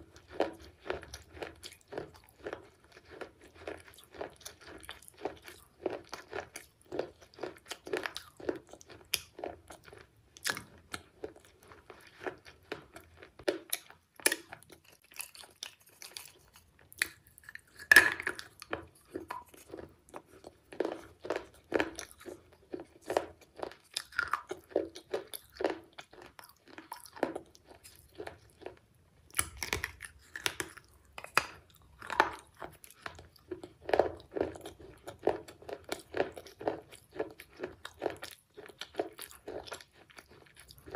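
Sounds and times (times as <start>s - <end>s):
crunching and chewing clay: 0.0s - 40.9s.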